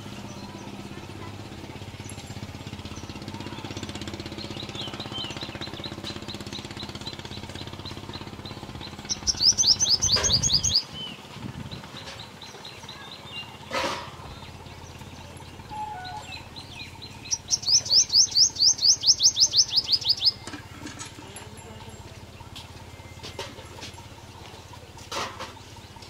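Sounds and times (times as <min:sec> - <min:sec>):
low mechanical drone: 0:00.0 - 0:26.0
bird chirping: 0:01.9 - 0:26.0.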